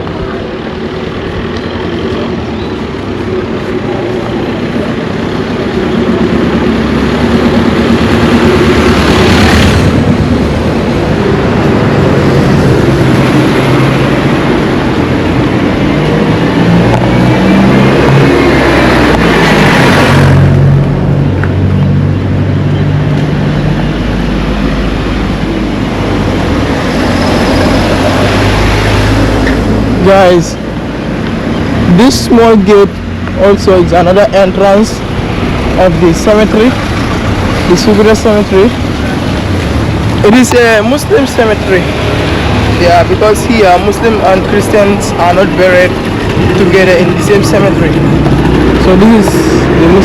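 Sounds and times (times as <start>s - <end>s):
vehicles passing close by: 0.0s - 50.0s.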